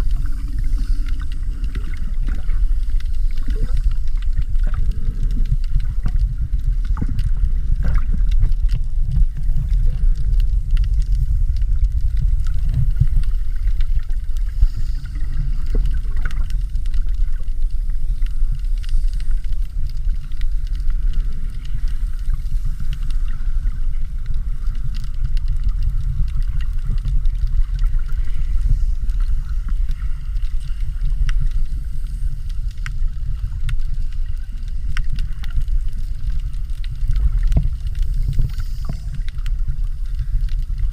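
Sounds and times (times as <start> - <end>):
underwater rumble of moving water: 0.0 - 40.9.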